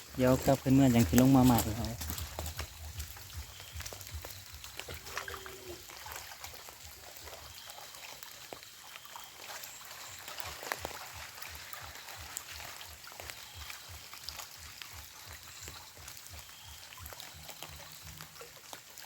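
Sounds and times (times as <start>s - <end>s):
rain falling: 0.0s - 19.0s
water trickling and dripping: 0.0s - 19.0s.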